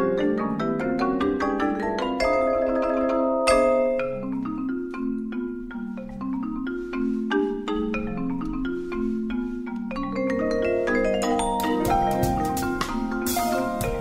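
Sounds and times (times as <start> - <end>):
marimba playing: 0.0 - 14.0
vibraphone: 0.0 - 14.0.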